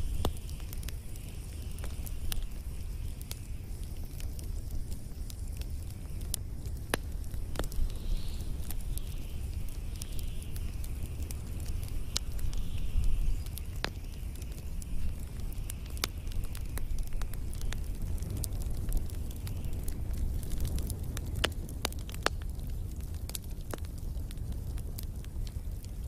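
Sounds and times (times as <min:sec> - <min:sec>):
soft hiss: 0:00.0 - 0:23.0
fire crackling and popping: 0:00.0 - 0:26.0
fire low rumble: 0:00.0 - 0:26.0.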